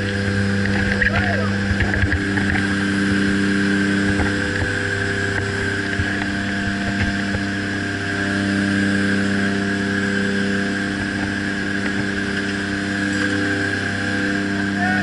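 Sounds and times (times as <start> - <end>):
aircraft engine drone: 0.0 - 15.0.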